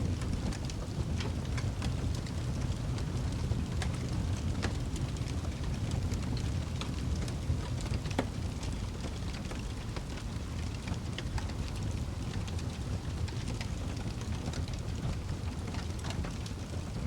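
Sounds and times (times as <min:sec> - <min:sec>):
low rumble of flame: 0:00.0 - 0:17.0
fire crackling and popping: 0:00.1 - 0:17.0.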